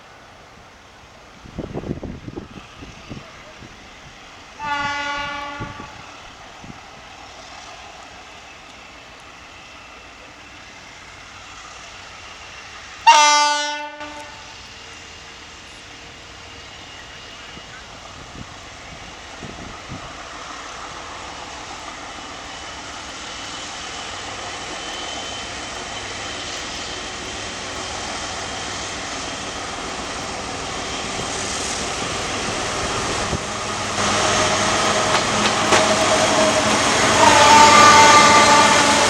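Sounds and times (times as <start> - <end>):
diesel locomotive engine drone: 0.0 - 39.0.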